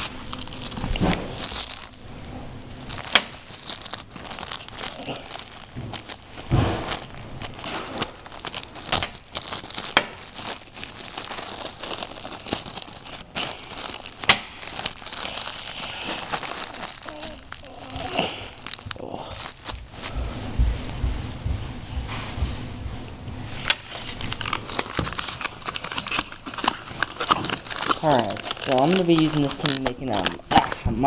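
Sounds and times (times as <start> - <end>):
packaging tearing: 0.0 - 20.1, 23.6 - 31.0
packaging crinkling: 0.0 - 20.3, 23.6 - 31.0.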